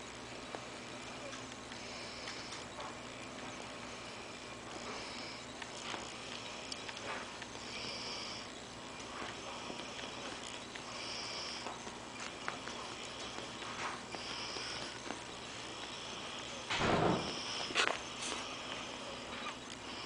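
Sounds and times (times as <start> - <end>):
puppies sniffing and scuffling: 0.4 - 20.0.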